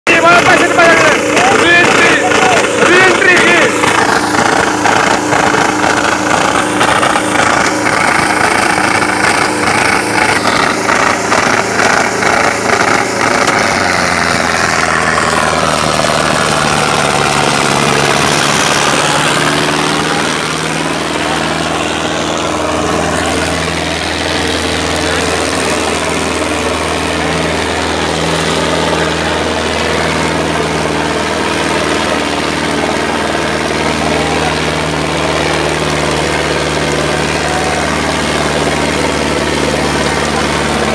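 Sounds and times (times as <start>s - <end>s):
tractor diesel engine labouring: 0.0s - 40.9s.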